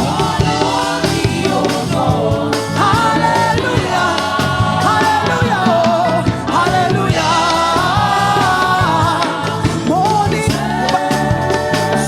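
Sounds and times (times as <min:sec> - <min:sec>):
gospel band playing: 0:00.0 - 0:12.0.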